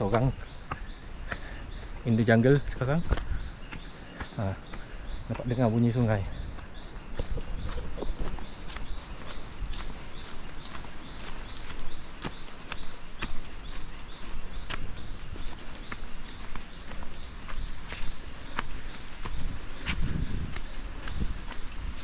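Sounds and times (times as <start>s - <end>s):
flip-flop footsteps on dirt: 0.0s - 22.0s
jungle insects droning: 0.0s - 22.0s.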